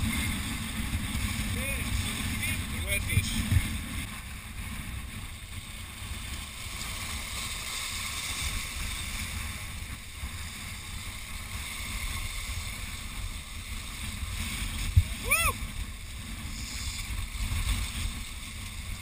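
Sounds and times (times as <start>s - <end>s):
surf washing over rocks: 0.0s - 19.0s
wind buffeting microphone: 0.0s - 19.0s.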